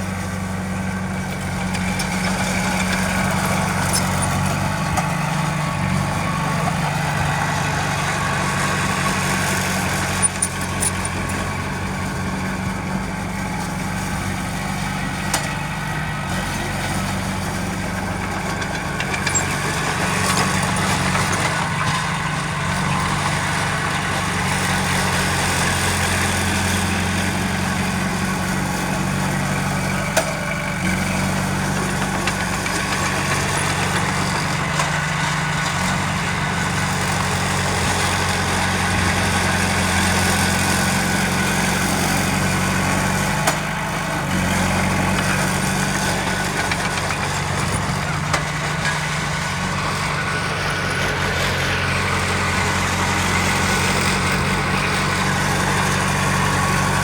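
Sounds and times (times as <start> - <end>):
heavy machine engine idling: 0.0 - 57.0.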